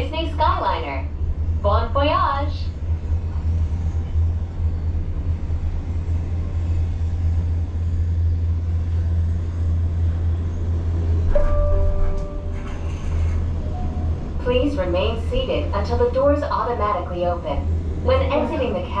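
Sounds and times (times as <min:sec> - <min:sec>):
gondola cabin rumble: 0:00.0 - 0:19.0.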